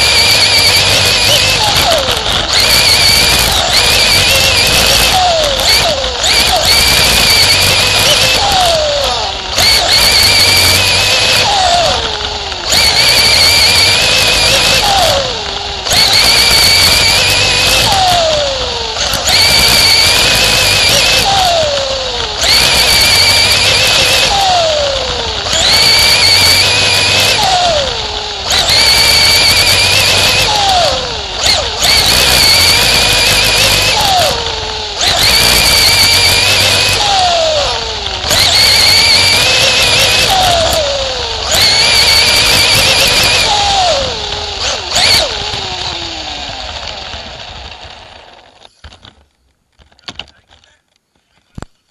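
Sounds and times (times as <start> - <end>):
race car engine revving: 0.0 - 46.1.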